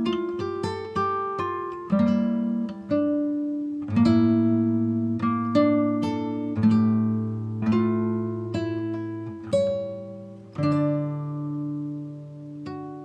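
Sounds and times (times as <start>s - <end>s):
plucked strings music: 0.0s - 13.0s.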